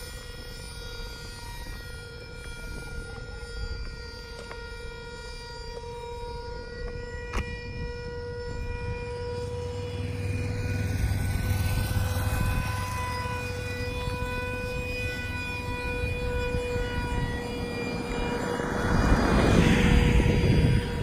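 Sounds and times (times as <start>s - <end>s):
model jet motor whine: 0.0s - 21.0s.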